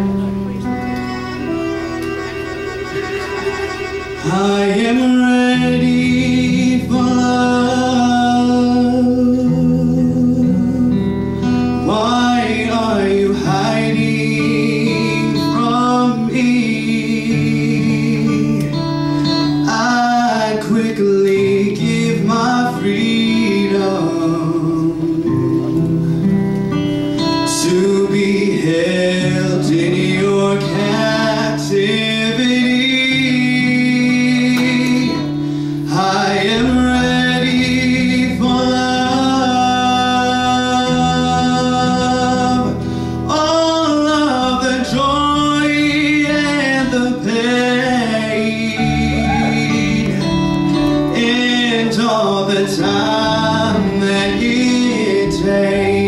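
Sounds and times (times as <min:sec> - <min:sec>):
instrumental accompaniment: 0:00.0 - 0:08.6, 0:09.5 - 0:56.0
man singing into microphone: 0:04.2 - 0:11.1, 0:11.7 - 0:26.3, 0:27.4 - 0:56.0.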